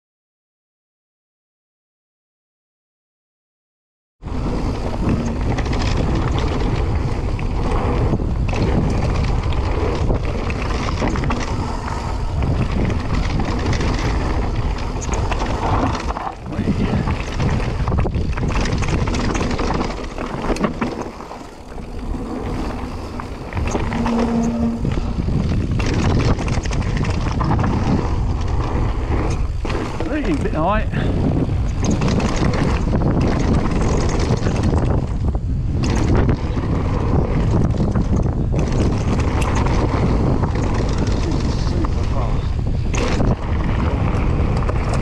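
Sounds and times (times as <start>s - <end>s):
wind rush on microphone: 4.2s - 45.0s
bike rattling: 4.3s - 45.0s
tyre noise on gravel: 4.3s - 45.0s.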